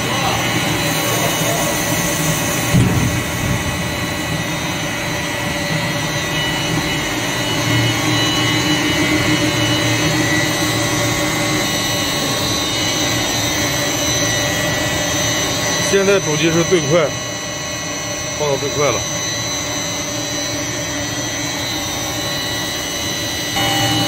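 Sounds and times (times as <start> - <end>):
machine humming: 0.0 - 24.0
motors whining: 0.0 - 24.0.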